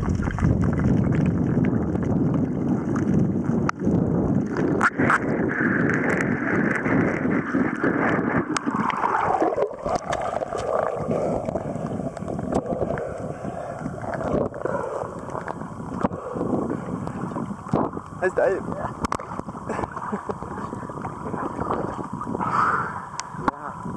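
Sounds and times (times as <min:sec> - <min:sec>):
water rushing and rumbling: 0:00.0 - 0:23.9.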